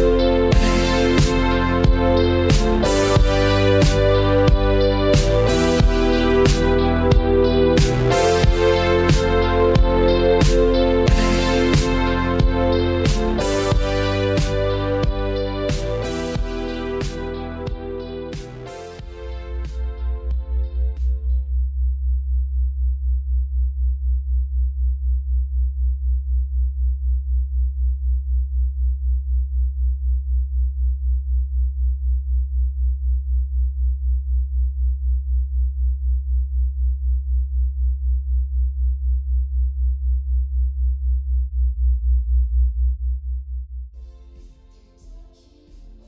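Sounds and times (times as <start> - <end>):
deep electronic bass pulsing: 0.0 - 46.0.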